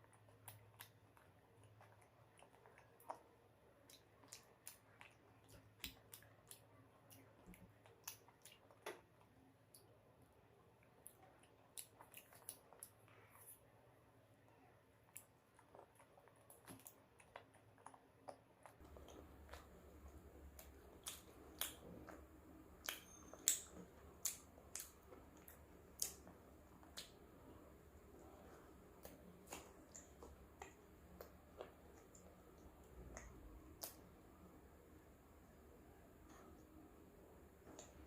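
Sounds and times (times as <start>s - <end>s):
chewing with mouth clicks: 0.0s - 9.9s, 10.8s - 13.6s, 14.9s - 34.3s
faint low hum: 0.0s - 38.0s.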